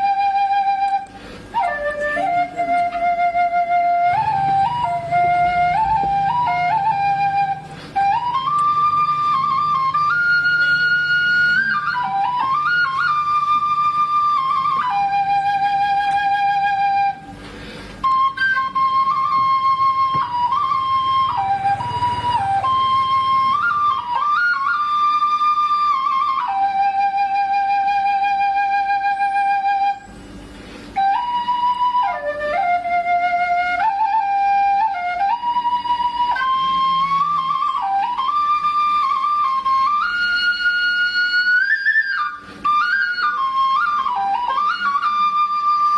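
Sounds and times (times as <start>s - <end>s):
solo flute melody: 0.0s - 45.9s.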